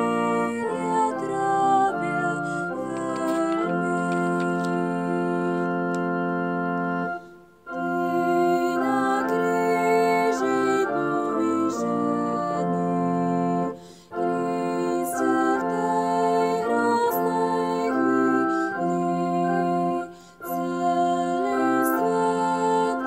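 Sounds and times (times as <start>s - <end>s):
organ playing held chords: 0.0s - 23.0s.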